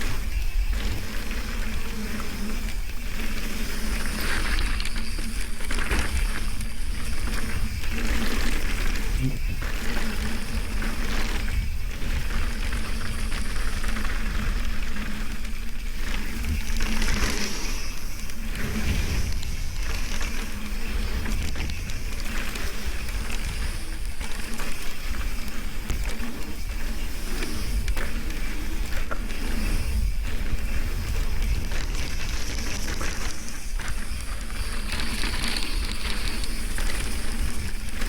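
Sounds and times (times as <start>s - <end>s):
bike rattling over bumps: 0.0s - 38.0s
bike tyres rumbling on dirt: 0.0s - 38.0s
wind on microphone: 0.0s - 38.0s.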